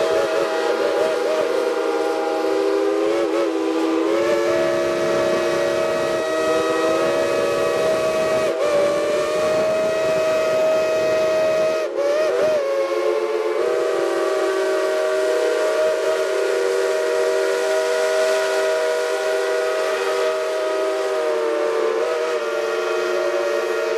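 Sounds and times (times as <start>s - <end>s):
steam locomotive whistles: 0.0s - 23.9s.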